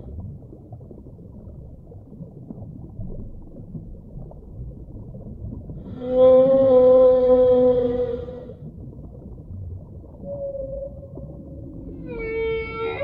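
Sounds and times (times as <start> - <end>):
muffled rush of water: 0.0 - 13.0.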